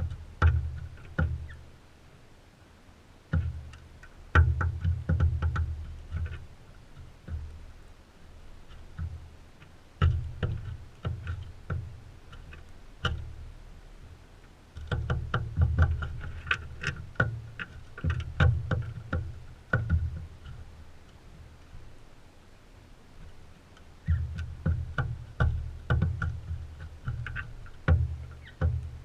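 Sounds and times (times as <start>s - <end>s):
birds pecking on seed feeder: 0.0s - 1.7s, 3.3s - 22.5s, 23.1s - 29.0s.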